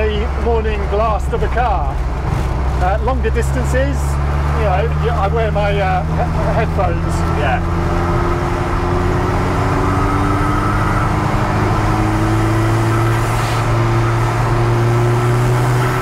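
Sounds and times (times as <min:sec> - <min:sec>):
car engine revs rising: 0:00.0 - 0:16.0.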